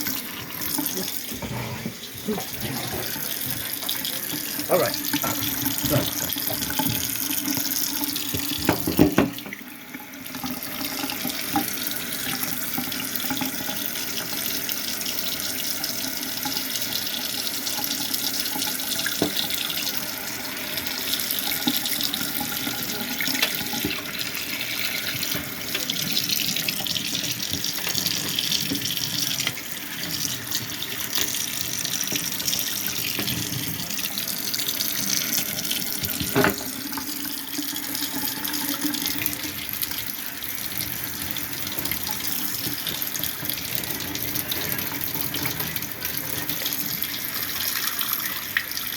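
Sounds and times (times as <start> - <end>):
tap water running and splashing: 0.0 - 48.9.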